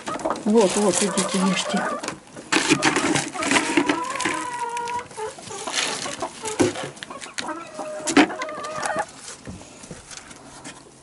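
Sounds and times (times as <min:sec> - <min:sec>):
hens clucking: 0:00.0 - 0:09.4.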